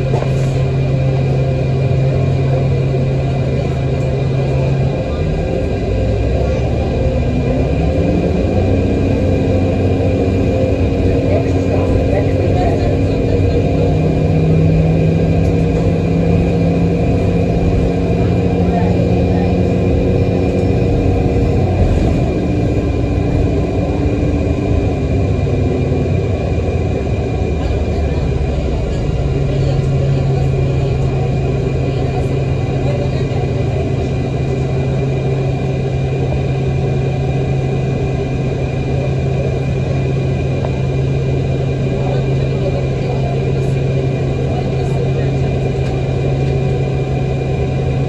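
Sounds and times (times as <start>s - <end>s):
bus engine and road noise: 0.0s - 48.0s
strong steady hum: 0.0s - 48.0s.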